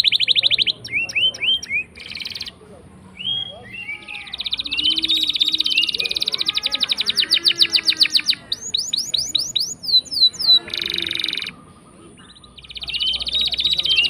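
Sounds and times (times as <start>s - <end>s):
canary singing trills: 0.0s - 14.0s.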